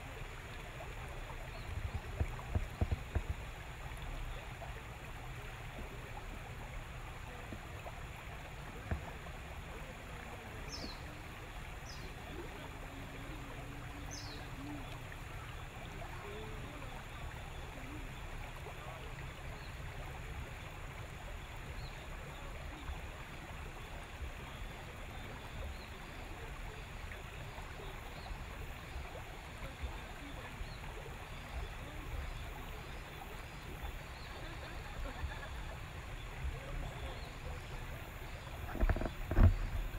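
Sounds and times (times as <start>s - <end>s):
wind around a boat: 0.0s - 39.9s.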